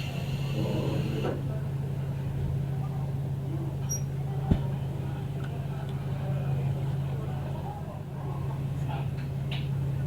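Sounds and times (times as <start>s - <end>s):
diesel railcar engine humming: 0.0s - 8.8s.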